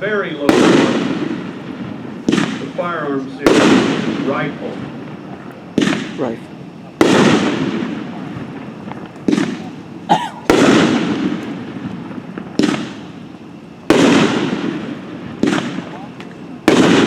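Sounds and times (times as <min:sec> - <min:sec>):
firework bursts with echo: 0:00.0 - 0:17.0.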